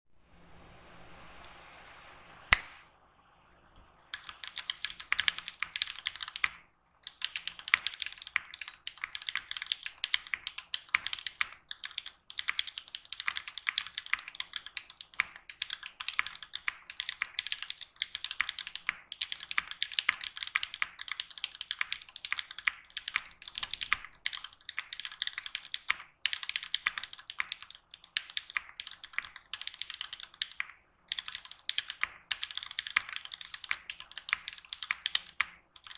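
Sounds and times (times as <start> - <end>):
mechanical keyboard typing: 4.1 - 35.9.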